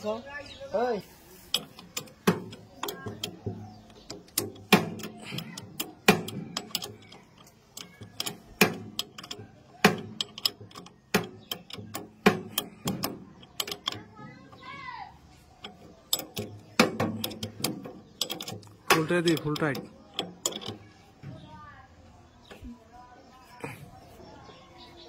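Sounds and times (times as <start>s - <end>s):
sharp clicks and knocks: 1.4s - 21.6s, 22.4s - 23.4s.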